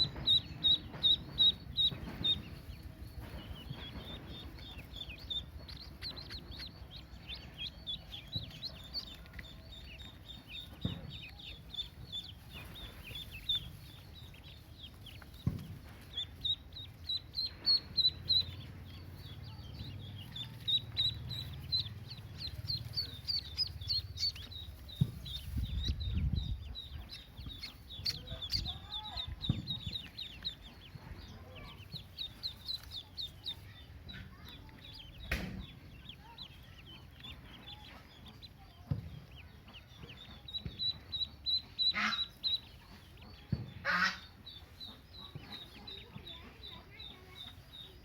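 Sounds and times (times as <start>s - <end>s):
ducklings peeping: 0.0s - 48.0s.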